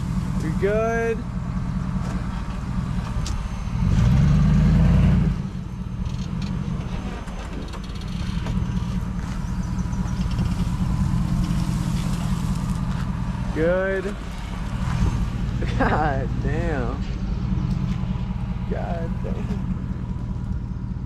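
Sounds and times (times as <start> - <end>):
car engine revving: 0.0 - 21.0
car driving through brush: 1.8 - 21.0.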